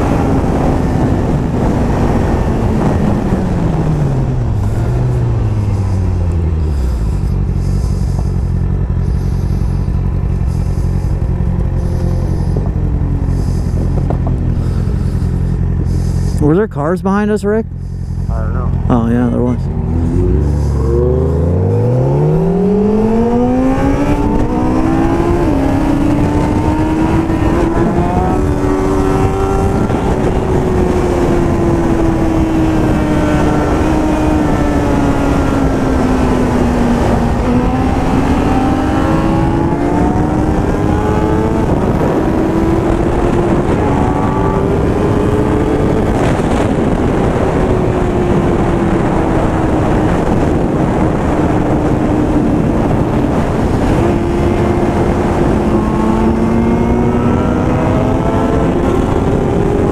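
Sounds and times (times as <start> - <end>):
wind noise on microphone: 0.0 - 16.7, 17.8 - 59.9
motorcycle engine accelerating: 0.0 - 59.9.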